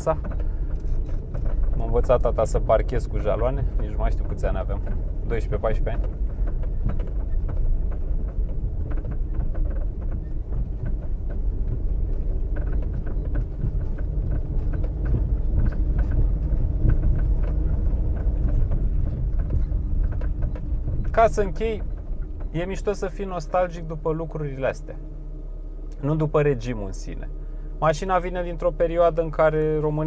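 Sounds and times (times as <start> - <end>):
clicks and rattles on cobblestones: 0.0 - 24.9
car engine low rumble: 0.0 - 30.0.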